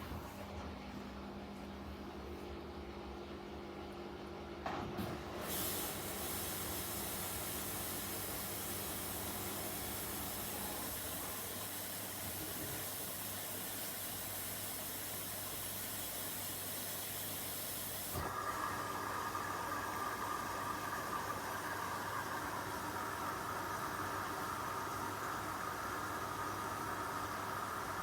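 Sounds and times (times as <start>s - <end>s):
washing machine filling with water: 4.9s - 28.0s.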